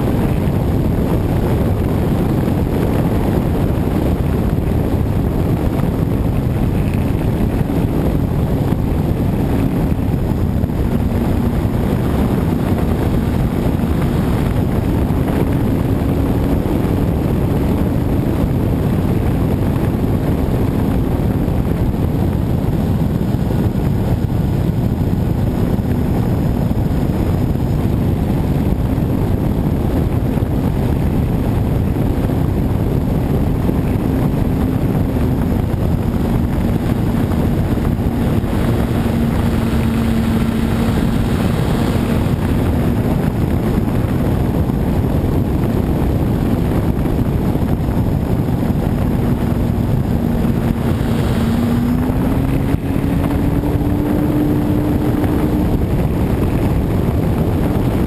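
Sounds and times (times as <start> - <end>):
model airplane motor and propeller: 0.0 - 58.0
wind rush: 0.0 - 58.0.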